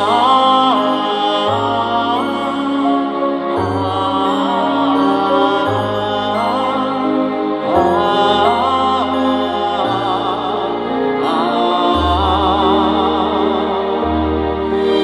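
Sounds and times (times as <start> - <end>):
band playing slow ballad: 0.0 - 14.2
person singing with vibrato: 0.0 - 15.0.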